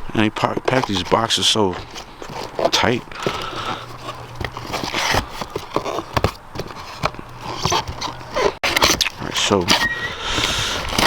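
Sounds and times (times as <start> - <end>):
cardboard box rustling: 0.4 - 11.0.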